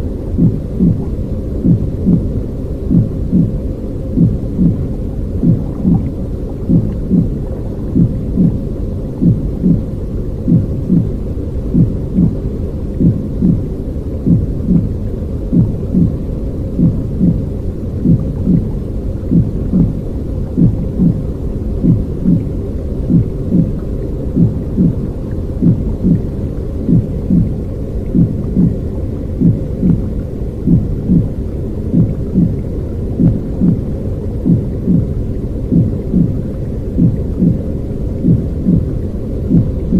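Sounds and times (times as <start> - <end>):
deep rumbling noise: 0.0 - 39.9.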